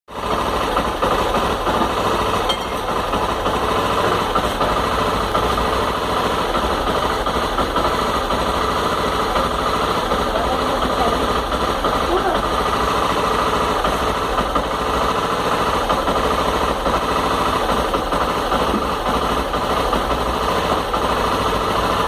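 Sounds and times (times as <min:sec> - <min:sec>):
motorcycle engine idling: 0:00.1 - 0:22.0.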